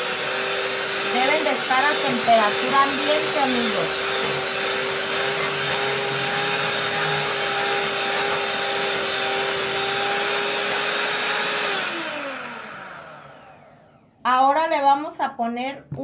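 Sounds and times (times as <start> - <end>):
electric mixer whining: 0.0 - 14.2.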